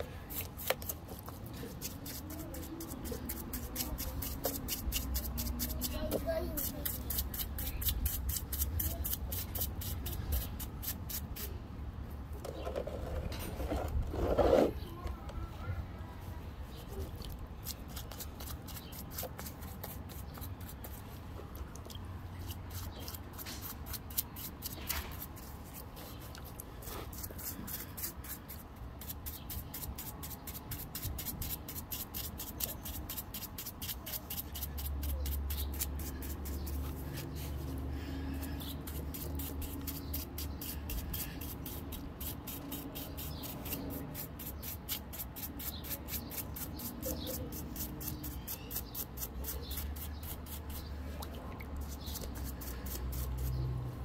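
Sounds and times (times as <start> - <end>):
brush scrubbing wet rock: 0.0 - 11.5, 17.2 - 21.8, 22.4 - 53.6.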